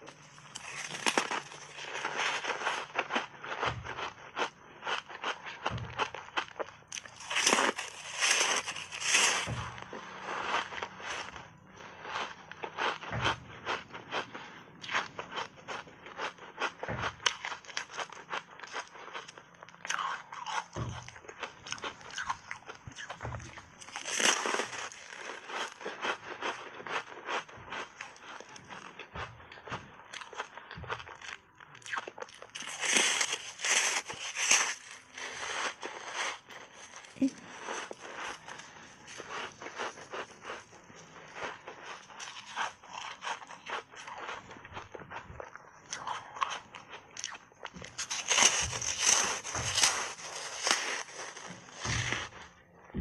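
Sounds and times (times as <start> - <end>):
crunchy ice bar chewing: 0.0 - 52.7.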